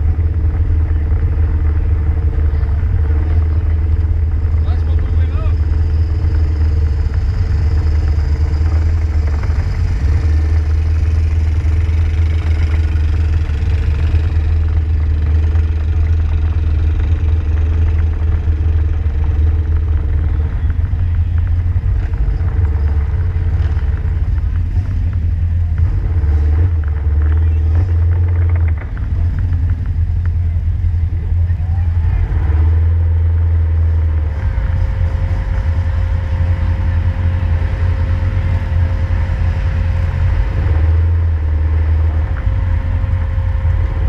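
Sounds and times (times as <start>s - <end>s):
vehicle engine low drone: 0.0s - 44.0s.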